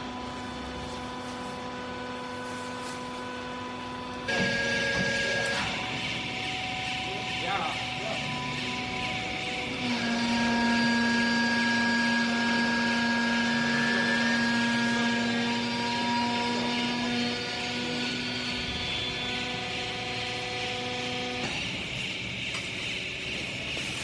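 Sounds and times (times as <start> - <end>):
hydraulic press whine and hum: 0.0 - 24.0.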